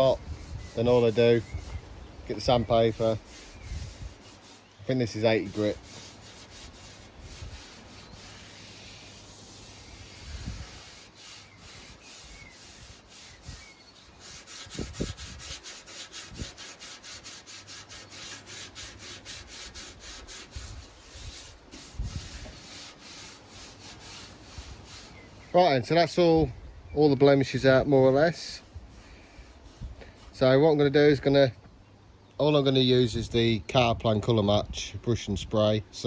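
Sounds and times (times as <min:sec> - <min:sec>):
sandpaper rubbing on metal: 0:00.0 - 0:25.6, 0:27.3 - 0:30.7.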